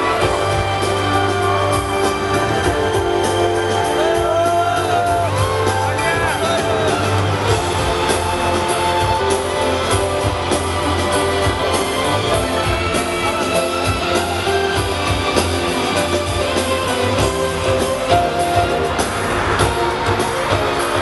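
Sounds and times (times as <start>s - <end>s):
live pop music: 0.0s - 21.0s.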